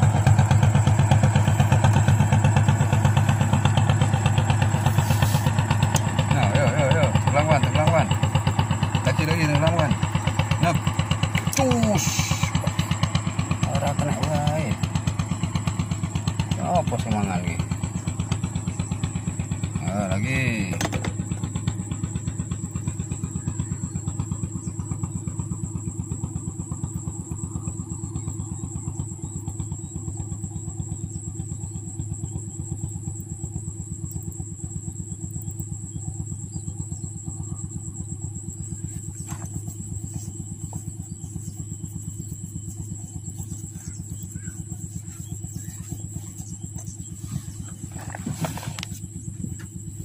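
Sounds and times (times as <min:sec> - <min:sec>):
small engine puttering: 0:00.0 - 0:50.0.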